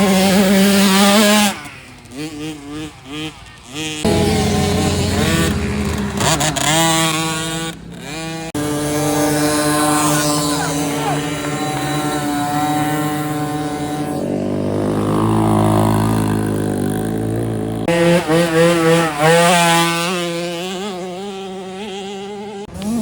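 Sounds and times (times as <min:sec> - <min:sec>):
dirt bike engines running: 0:00.0 - 0:23.0
engine revving up and down: 0:00.0 - 0:23.0.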